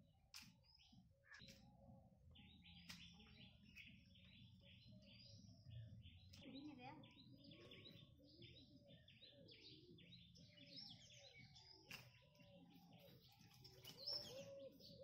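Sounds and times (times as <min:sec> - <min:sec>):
low repeated bird calls: 0:00.0 - 0:15.0
small birds chirping: 0:00.0 - 0:15.0.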